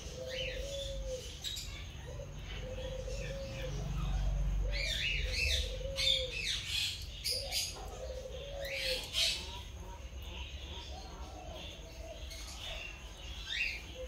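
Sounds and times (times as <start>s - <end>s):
birds chirping: 0.0s - 14.0s
soft repeating bird calls: 0.0s - 14.0s.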